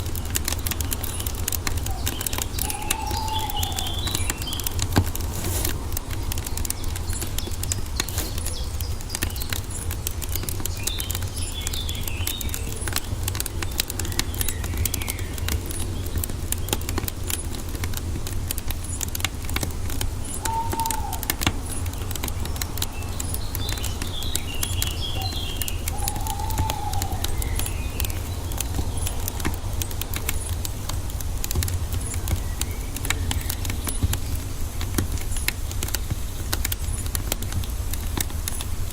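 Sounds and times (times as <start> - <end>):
birds chirping: 0.0 - 38.9
low rumble of flames: 0.0 - 38.9
wood fire crackling and popping: 0.0 - 38.9.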